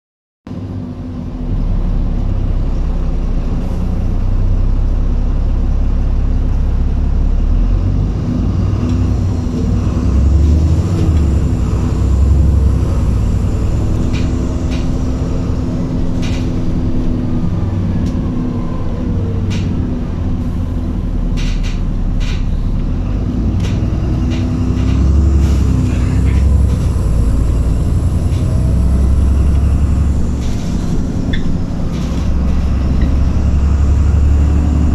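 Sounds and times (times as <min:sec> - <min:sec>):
bus engine rumble: 0:00.5 - 0:34.9.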